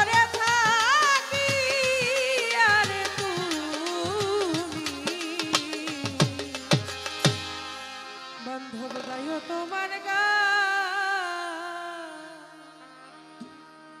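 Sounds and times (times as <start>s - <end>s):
woman singing into a microphone: 0.0s - 7.0s, 8.3s - 13.3s
instrumental accompaniment: 0.0s - 10.4s, 12.5s - 14.0s.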